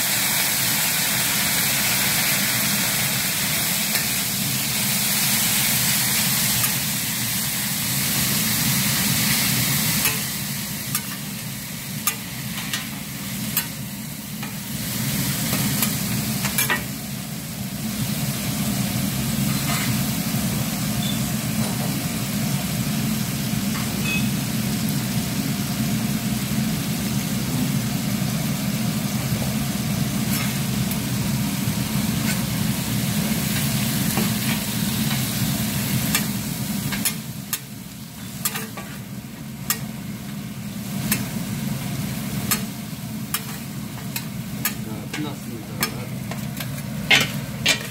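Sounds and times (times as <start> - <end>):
food sizzling on a griddle: 0.0 - 47.9.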